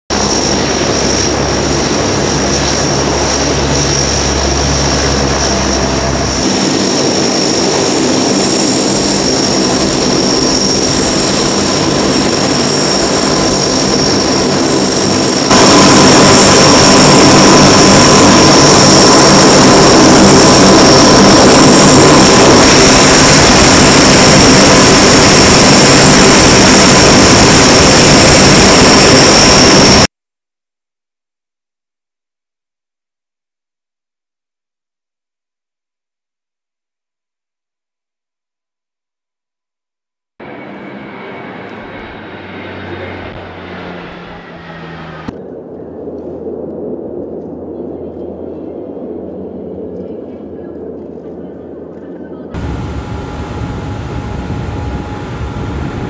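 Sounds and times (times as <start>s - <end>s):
turboprop engines droning: 0.1s - 30.1s, 40.4s - 56.0s.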